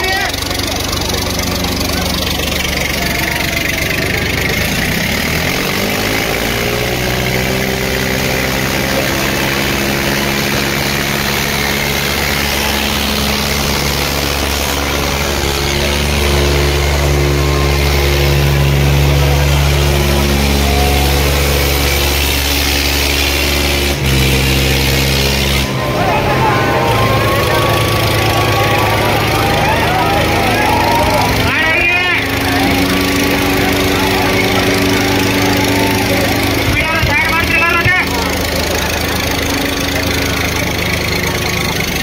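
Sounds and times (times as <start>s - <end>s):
crowd voices: 0.0s - 42.0s
diesel tractor engines revving: 0.0s - 42.0s.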